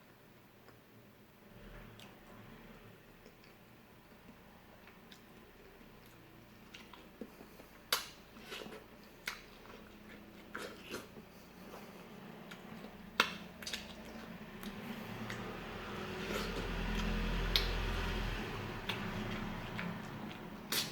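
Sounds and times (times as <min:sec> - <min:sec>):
biting and chewing fruit: 0:03.2 - 0:20.9.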